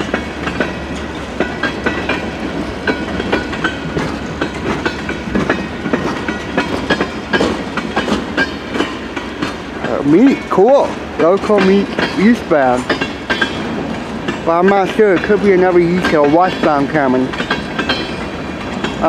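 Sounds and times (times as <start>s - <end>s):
steel train wheels rumbling: 0.0s - 19.0s
wheels clacking over rail joints: 0.0s - 19.0s.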